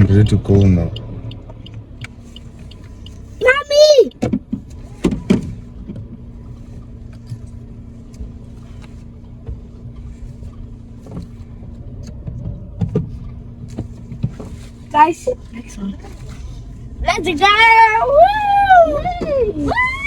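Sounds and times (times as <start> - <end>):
car engine rumble from cabin: 0.0 - 20.0.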